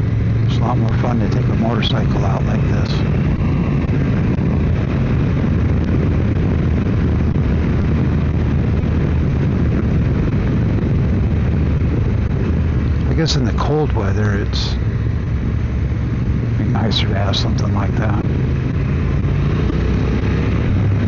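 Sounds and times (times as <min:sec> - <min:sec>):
motorcycle engine cruising: 0:00.0 - 0:21.0
road and wind noise: 0:00.0 - 0:21.0.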